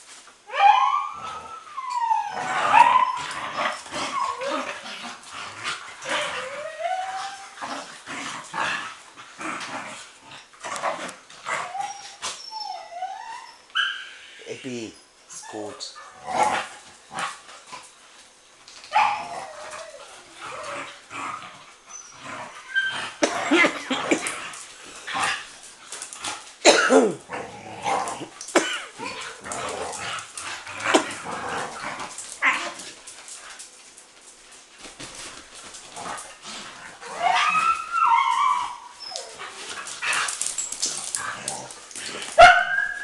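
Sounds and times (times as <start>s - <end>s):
young dogs barking and yipping: 0.5s - 14.4s, 18.8s - 33.7s, 35.2s - 43.0s.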